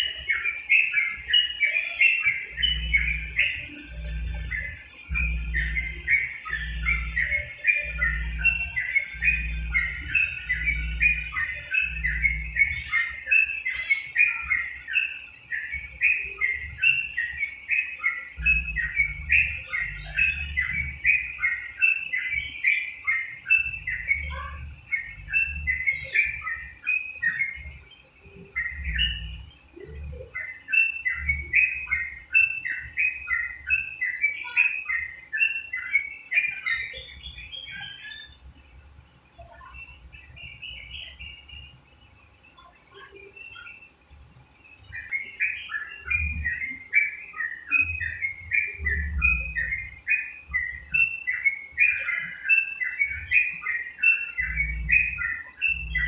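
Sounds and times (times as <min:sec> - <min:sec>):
bird singing fast chirps: 0:00.0 - 0:56.0.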